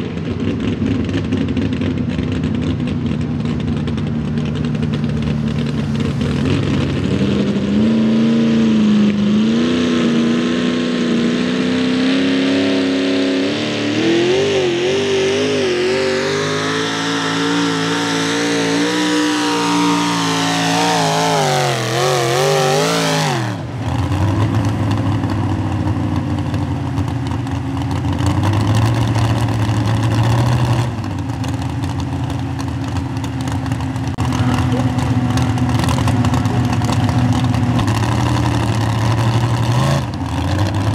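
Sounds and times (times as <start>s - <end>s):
truck engine at full throttle: 0.0s - 40.9s.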